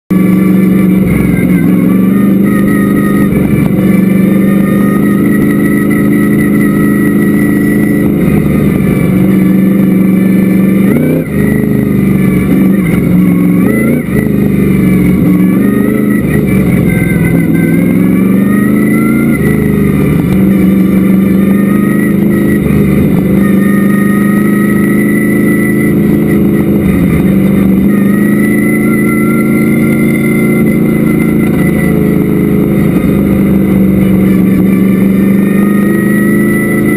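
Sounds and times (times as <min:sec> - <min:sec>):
race car engine revving: 0:00.1 - 0:36.9.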